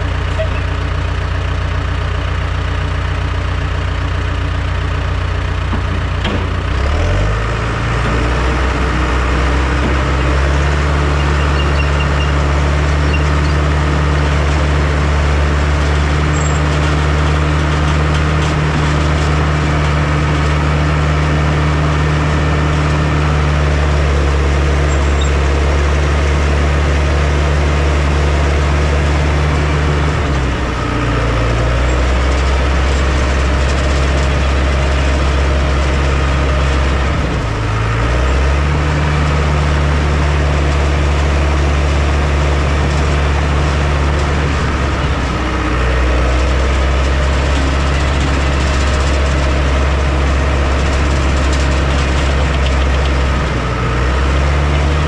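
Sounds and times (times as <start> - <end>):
heavy machinery engine running: 0.0 - 55.0.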